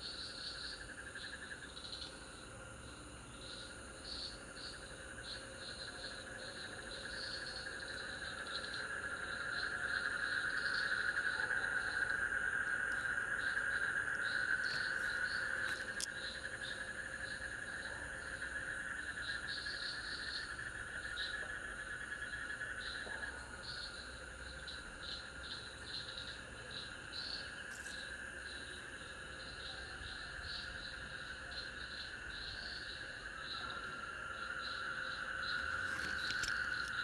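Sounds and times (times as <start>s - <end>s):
insects trilling: 0.0s - 37.0s.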